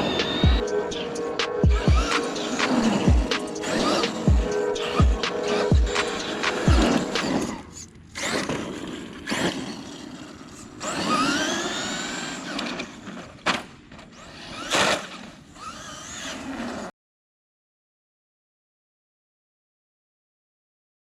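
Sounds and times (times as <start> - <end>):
electric motors whining: 0.0 - 16.9
tyre and drivetrain noise: 0.0 - 16.9.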